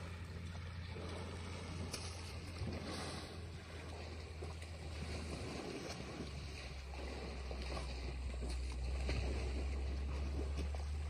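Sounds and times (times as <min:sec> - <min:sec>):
steady low rumble: 0:00.0 - 0:11.0
water splashing and lapping: 0:00.0 - 0:11.0.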